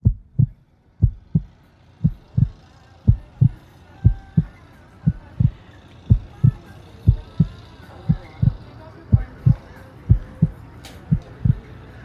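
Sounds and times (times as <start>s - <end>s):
heartbeat double thump: 0.0s - 4.5s, 5.1s - 7.5s, 8.1s - 8.6s, 9.2s - 11.6s.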